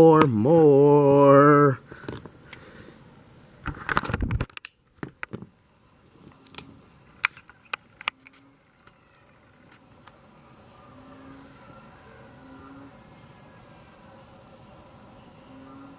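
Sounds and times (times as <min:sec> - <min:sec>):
faint outdoor background: 0:00.0 - 0:15.9.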